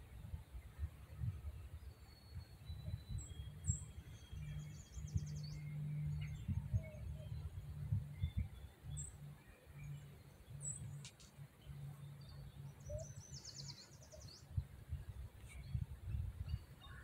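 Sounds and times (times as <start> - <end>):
low rumble on microphone: 0.0 - 17.0
faint bird chirps: 0.2 - 17.0.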